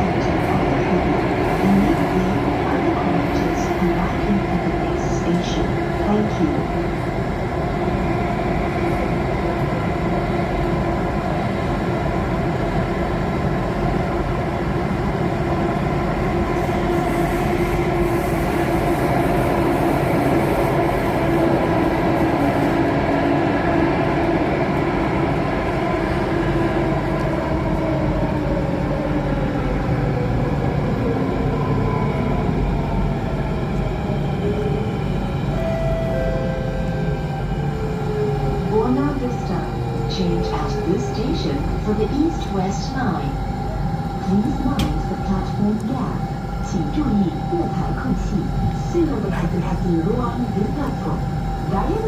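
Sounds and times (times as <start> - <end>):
metro train rumble: 0.0 - 52.0.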